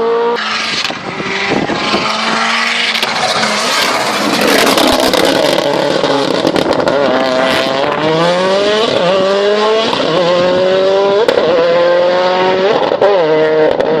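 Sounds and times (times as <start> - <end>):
race car engine running hard: 0.4 - 13.8.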